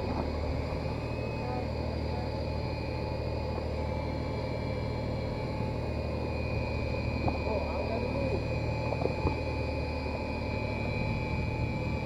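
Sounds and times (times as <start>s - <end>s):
boat engine humming: 0.0s - 12.0s
faint high whine: 0.0s - 12.0s.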